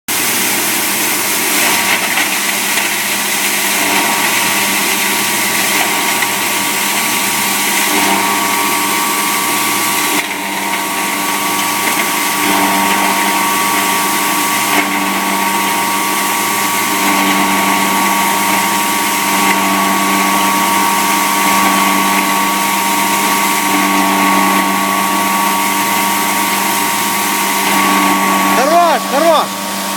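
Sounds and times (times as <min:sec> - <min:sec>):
wood chip crusher running: 0:00.1 - 0:29.9.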